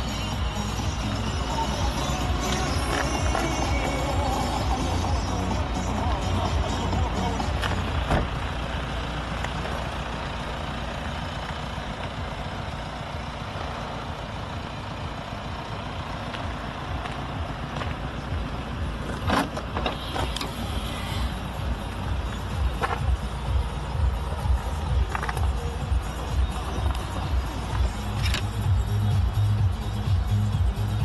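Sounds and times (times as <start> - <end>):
vehicle engine low rumble: 0.0 - 31.0.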